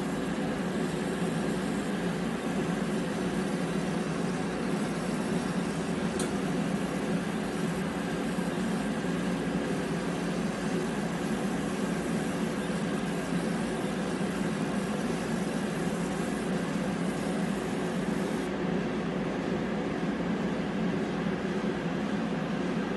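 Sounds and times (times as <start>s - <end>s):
laser engraving machine humming: 0.0s - 22.9s.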